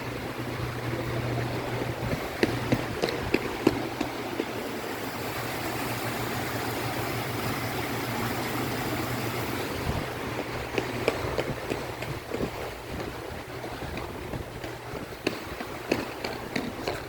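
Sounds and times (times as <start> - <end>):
traffic noise with engine hum: 0.0 - 17.0.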